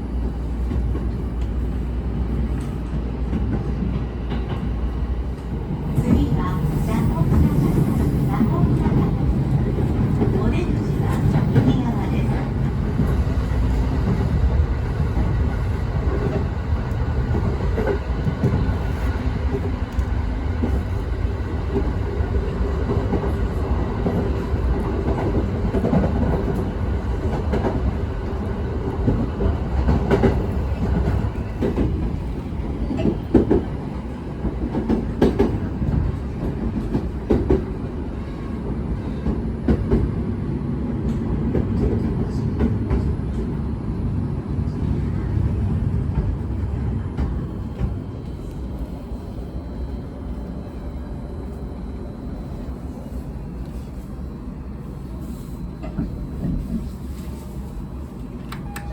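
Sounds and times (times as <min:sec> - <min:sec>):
electric train rumbling: 0:00.0 - 0:58.9.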